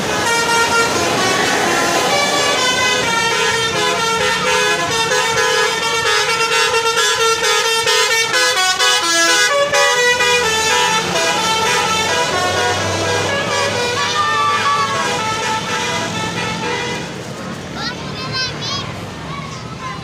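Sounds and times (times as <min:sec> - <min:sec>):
multi-tone air horns playing tune: 0:00.0 - 0:17.3.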